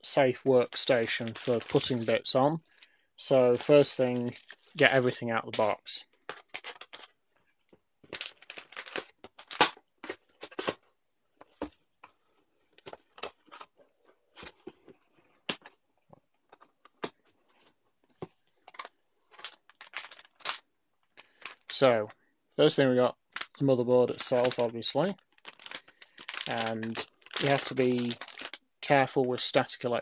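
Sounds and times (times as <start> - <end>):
packaging crinkling and rustling: 0.7 - 2.8, 3.4 - 21.9, 24.2 - 28.6.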